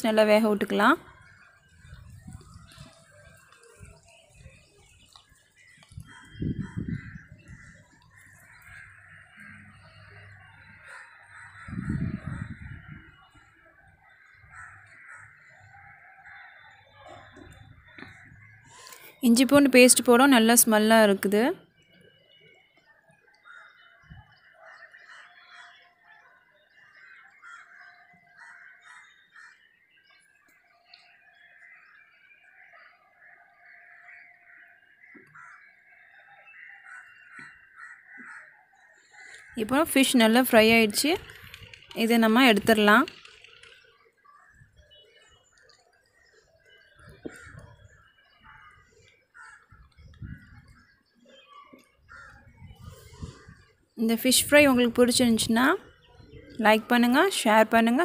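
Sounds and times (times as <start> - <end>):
bird calls: 0.0 - 58.0.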